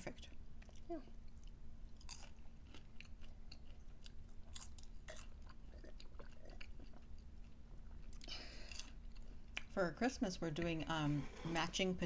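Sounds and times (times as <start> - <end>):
chewing and crunching snack food: 0.1 - 9.8.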